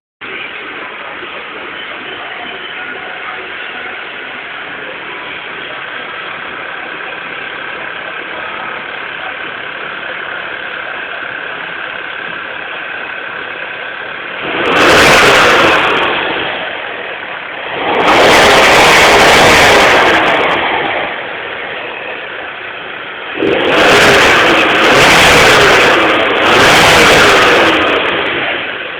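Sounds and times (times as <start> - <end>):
car engine idling and revving: 0.2 - 28.9.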